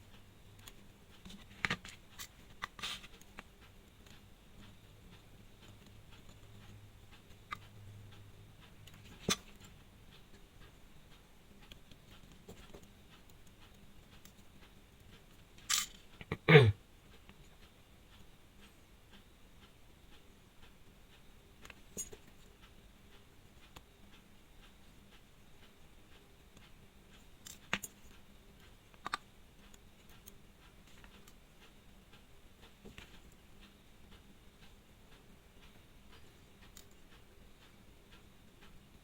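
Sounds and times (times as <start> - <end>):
small tools clicking on a watch: 0.1 - 16.3, 17.1 - 39.0.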